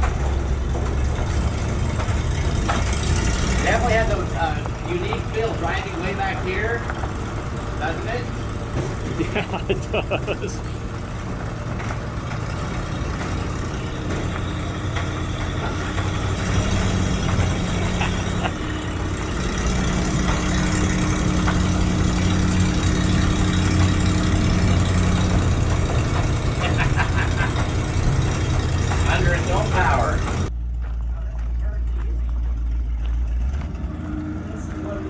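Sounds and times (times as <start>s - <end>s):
exhaust leak: 0.0s - 30.5s
truck engine running: 0.0s - 35.0s.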